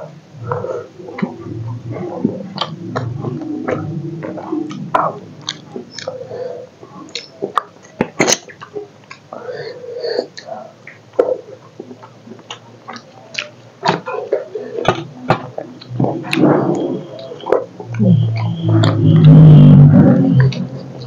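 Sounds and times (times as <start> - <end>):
chewing with lip smacks: 0.4 - 9.4, 10.2 - 19.3, 20.0 - 21.0.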